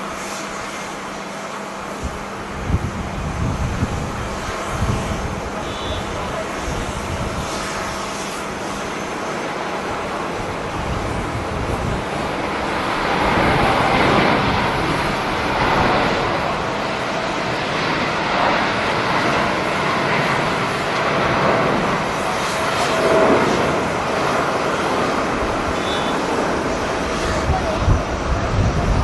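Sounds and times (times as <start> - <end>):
jet engine rushing: 0.0 - 29.0
wind buffeting microphone: 1.6 - 29.0.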